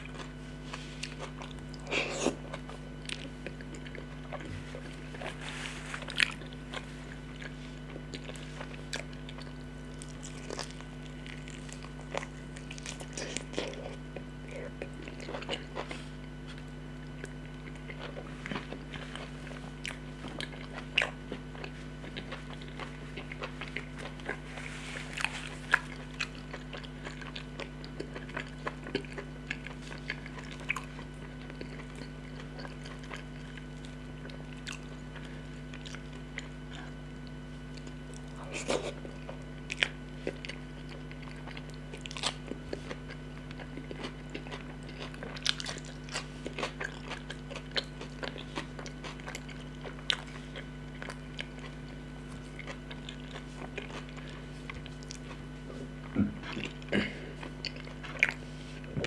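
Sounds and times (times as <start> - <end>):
chewing with wet mouth smacks: 0.0 - 59.0
low electrical hum: 0.0 - 59.0.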